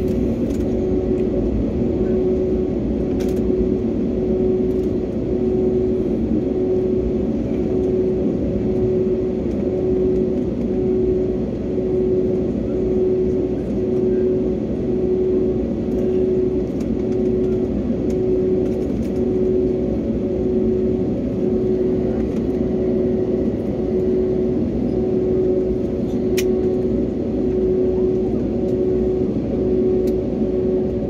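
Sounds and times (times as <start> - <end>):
jet engines droning in cabin: 0.0 - 31.0.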